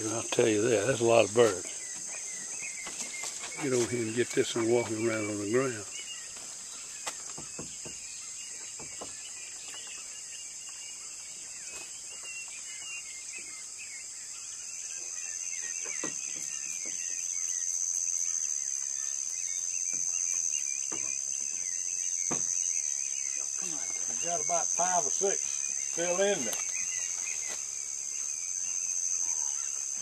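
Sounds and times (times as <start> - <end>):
faint bird chirps: 0.0 - 30.0
high-pitched insect chorus: 0.0 - 30.0.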